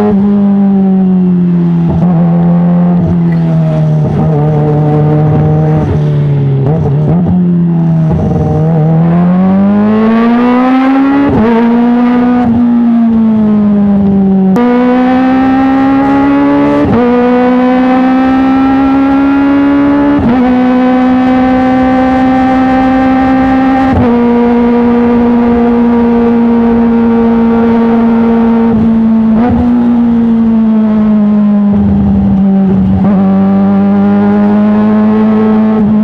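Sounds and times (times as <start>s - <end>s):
motorcycle engine running high: 0.0s - 36.0s.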